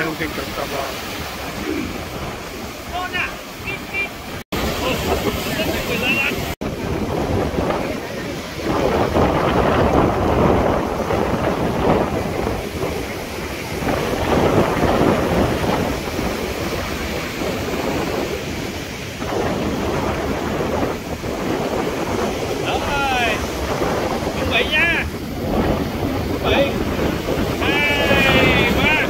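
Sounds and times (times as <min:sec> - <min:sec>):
surf breaking on rocks: 0:00.0 - 0:29.0
wind buffeting microphone: 0:00.0 - 0:29.0.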